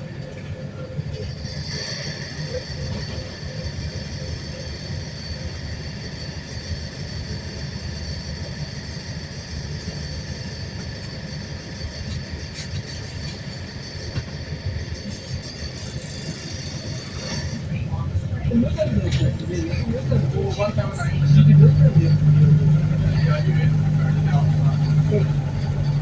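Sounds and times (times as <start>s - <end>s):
bus cabin rumble: 0.0s - 26.0s.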